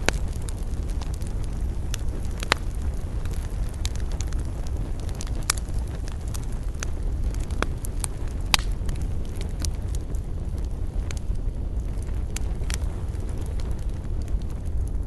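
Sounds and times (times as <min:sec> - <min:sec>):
campfire crackling: 0:00.0 - 0:15.0
low rumble: 0:00.0 - 0:15.0.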